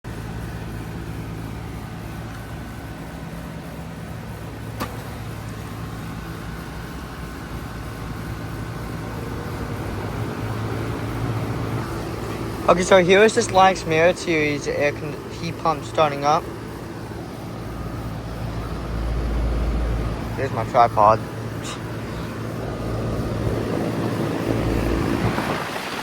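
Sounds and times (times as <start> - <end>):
air conditioner unit humming: 0.1 - 26.0.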